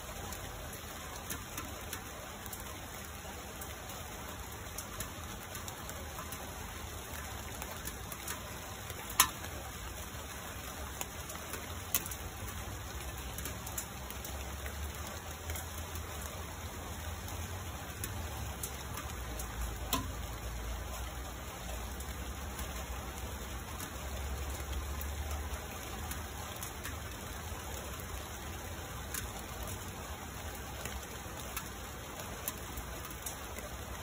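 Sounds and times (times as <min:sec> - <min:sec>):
raindrops tapping: 0:00.0 - 0:34.0
steady rain: 0:00.0 - 0:34.0.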